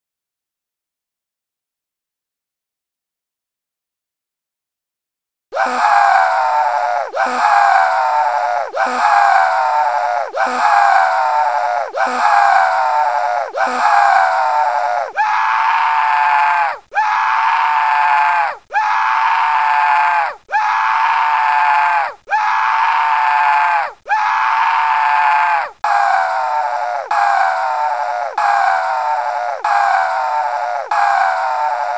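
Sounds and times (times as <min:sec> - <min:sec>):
cartoon screams: 0:05.5 - 0:31.9.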